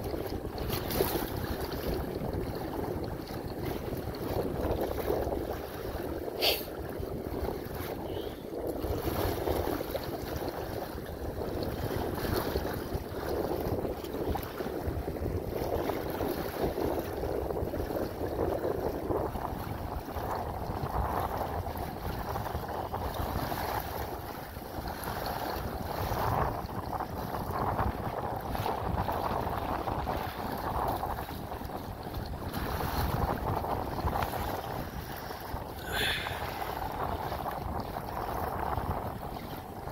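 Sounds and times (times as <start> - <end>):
water slapping against kayak: 0.0 - 39.9
wind buffeting microphone: 0.0 - 39.9.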